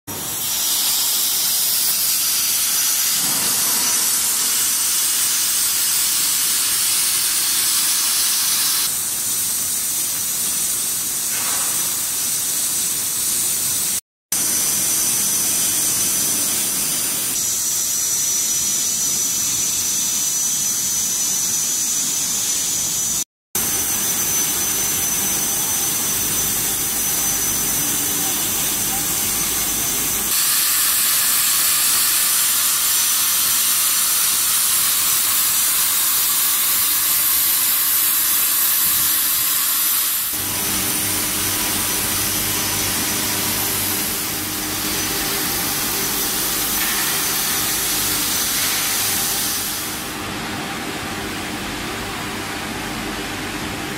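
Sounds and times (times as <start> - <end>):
plasma torch hissing and whistling: 0.1 - 50.2.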